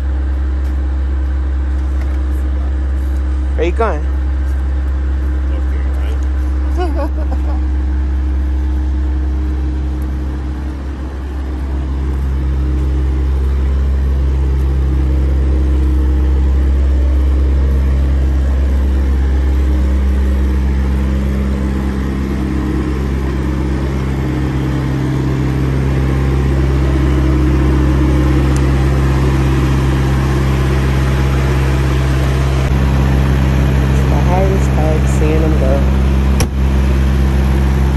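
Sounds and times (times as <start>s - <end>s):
truck diesel engine idling: 0.0s - 37.9s.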